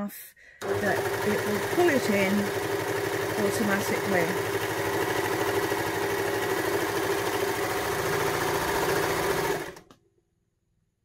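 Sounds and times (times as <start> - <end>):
overlocker sewing machine running: 0.6 - 9.9.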